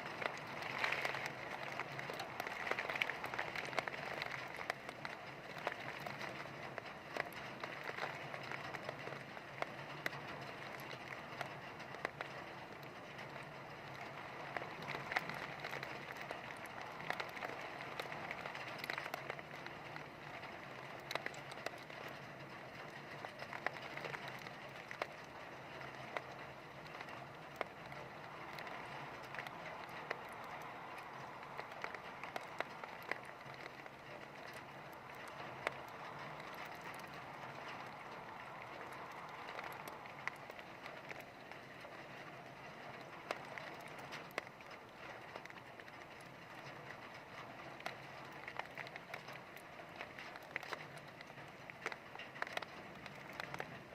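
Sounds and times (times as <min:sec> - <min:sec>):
heavy rain on hard surface: 0:00.0 - 0:53.9.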